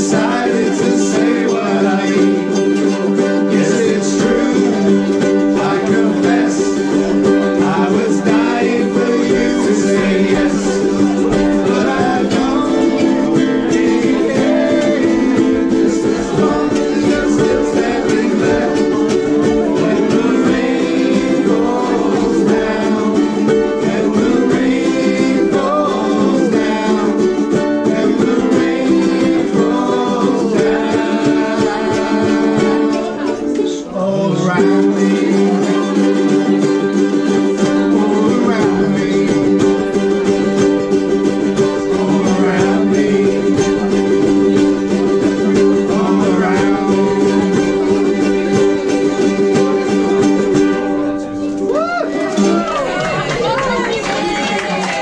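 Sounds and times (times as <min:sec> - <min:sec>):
group singing along: 0:00.0 - 0:51.5, 0:52.2 - 0:55.0
ukuleles strummed together: 0:00.0 - 0:55.0.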